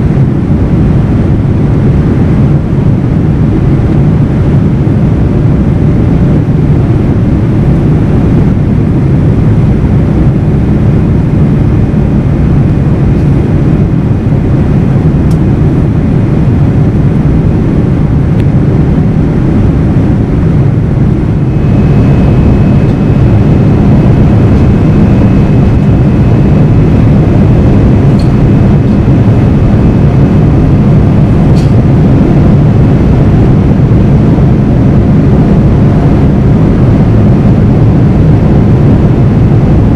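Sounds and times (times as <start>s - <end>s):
faint high whine: 0.0s - 39.9s
jet engine cabin noise: 0.0s - 39.9s.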